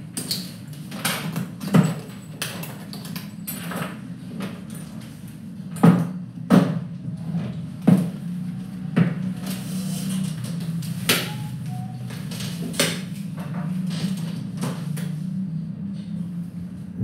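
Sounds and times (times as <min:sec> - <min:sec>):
steady low hum: 0:03.1 - 0:17.0.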